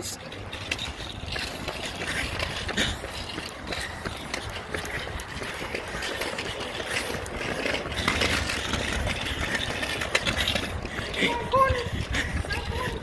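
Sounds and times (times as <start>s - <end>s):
scooter wheels rolling on asphalt: 0.0s - 13.0s.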